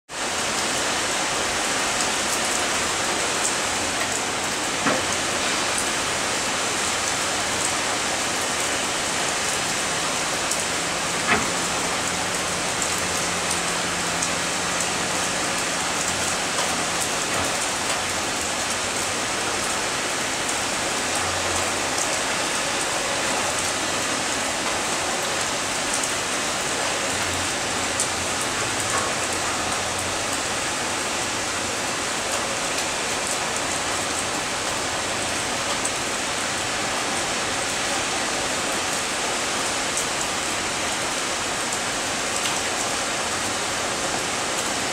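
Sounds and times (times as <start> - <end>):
heavy rain pouring: 0.1 - 44.9
raindrops ticking on surface: 0.2 - 44.9.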